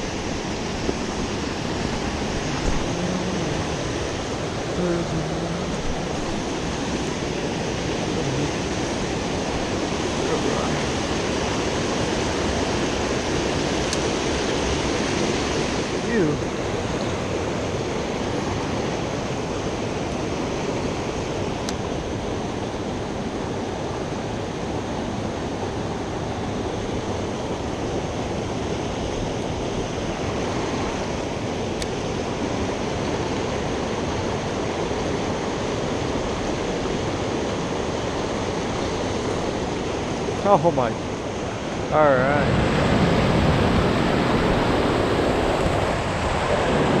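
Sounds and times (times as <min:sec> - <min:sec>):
water rushing over small waterfalls: 0:00.0 - 0:47.0.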